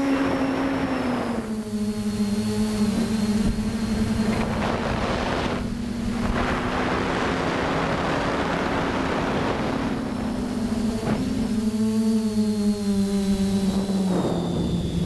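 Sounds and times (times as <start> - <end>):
quadcopter motors droning: 0.0 - 15.0
wind rushing over microphone: 0.0 - 15.0.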